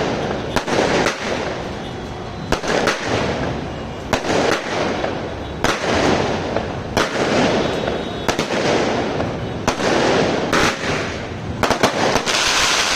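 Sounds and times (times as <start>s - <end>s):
fireworks bursting effects: 0.0s - 12.9s
fireworks cake sharp reports: 0.0s - 12.9s.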